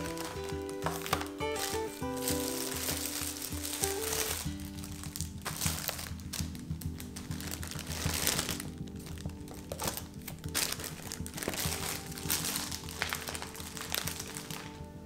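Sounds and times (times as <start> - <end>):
background music: 0.0 - 15.0
plastic packaging crinkling: 0.0 - 15.0.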